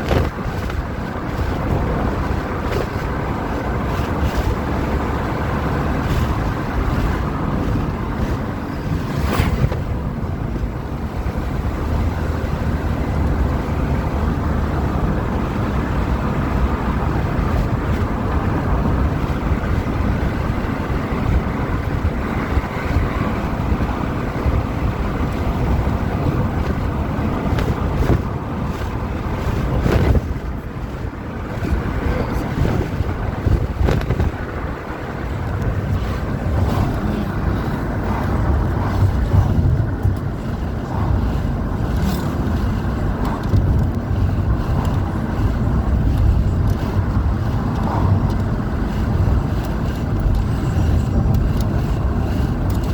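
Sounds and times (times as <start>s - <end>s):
wind blowing across microphone: 0.0s - 52.9s.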